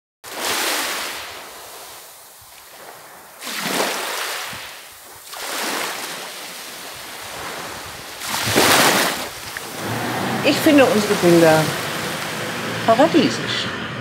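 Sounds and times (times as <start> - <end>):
sea waves washing onto a beach: 0.2 - 14.0.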